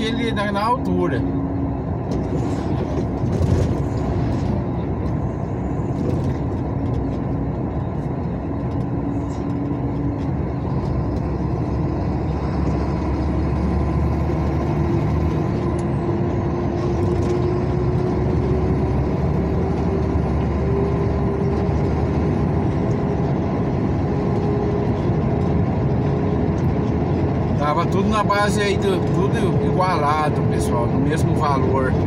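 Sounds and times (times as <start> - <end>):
car engine: 0.0 - 32.0
road noise: 0.0 - 32.0.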